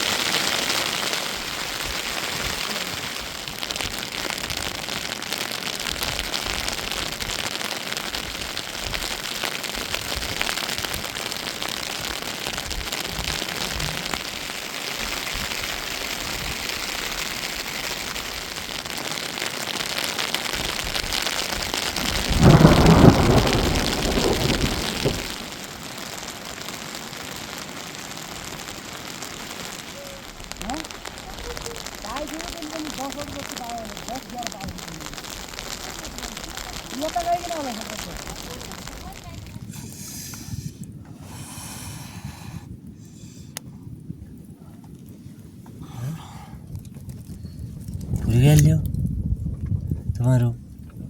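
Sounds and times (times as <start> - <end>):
steady rain hiss: 0.0 - 48.9, 50.1 - 50.6.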